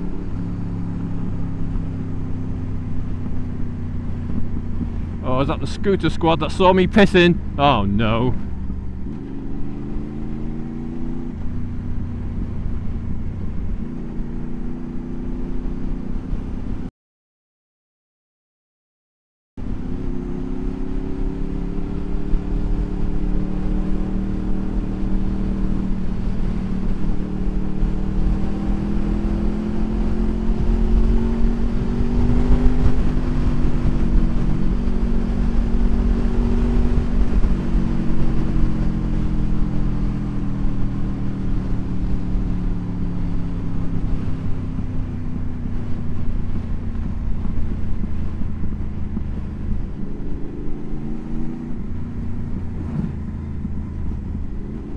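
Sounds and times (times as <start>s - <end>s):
wind rumble on microphone: 0.0s - 5.2s, 8.3s - 16.9s, 19.6s - 54.9s
motorcycle engine running: 0.0s - 16.8s, 19.6s - 54.9s.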